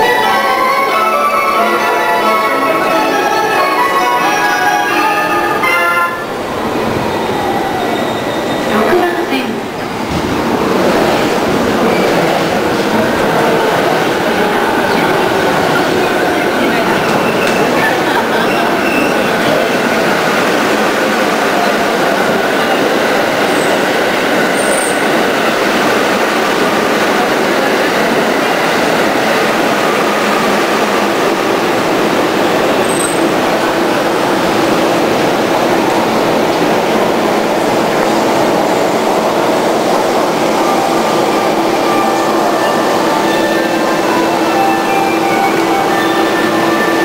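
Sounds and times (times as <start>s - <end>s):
electric train rushing noise: 0.0s - 47.0s.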